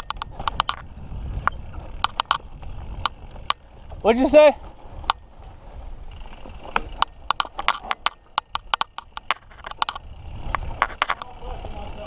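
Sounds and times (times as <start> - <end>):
bike rattling clicks and knocks: 0.0 - 12.0.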